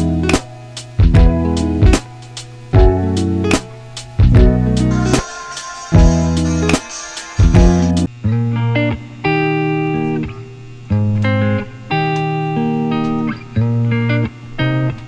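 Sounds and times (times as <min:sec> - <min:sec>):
held music chords: 0:00.0 - 0:15.0.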